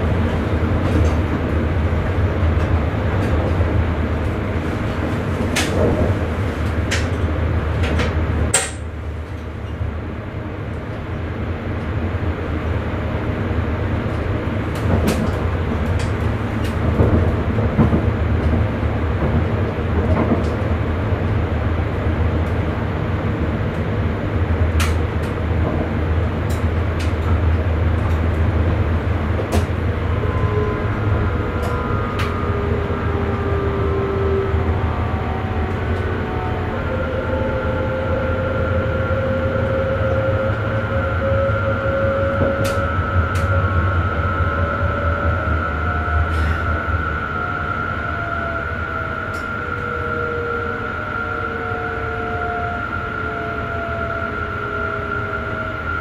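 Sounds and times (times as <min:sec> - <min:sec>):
electric train rumble and hum: 0:00.0 - 0:56.0.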